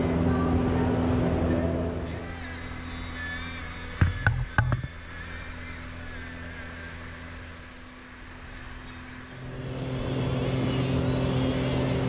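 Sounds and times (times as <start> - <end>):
high engine whine: 0.0 - 12.0
jet ski engine running: 0.0 - 12.0.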